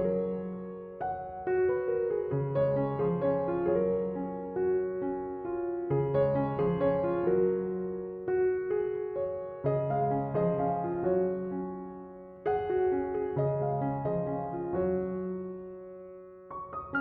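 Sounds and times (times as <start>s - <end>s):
gentle solo piano: 0.0s - 17.0s.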